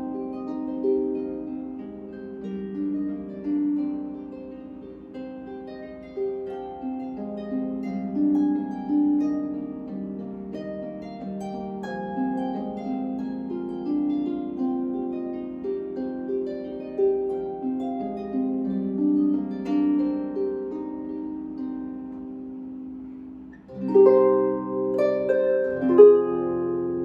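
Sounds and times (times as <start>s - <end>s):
harp plucked strings: 0.0s - 27.0s.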